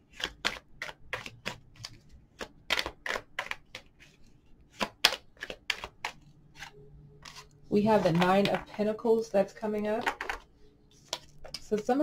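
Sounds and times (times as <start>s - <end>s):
cards shuffling: 0.0s - 8.8s, 10.0s - 12.0s.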